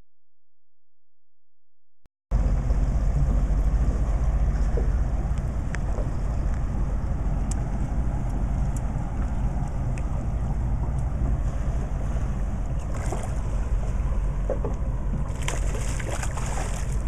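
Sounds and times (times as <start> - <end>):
boat engine running: 2.4 - 17.0
wind rushing over microphone: 2.4 - 17.0.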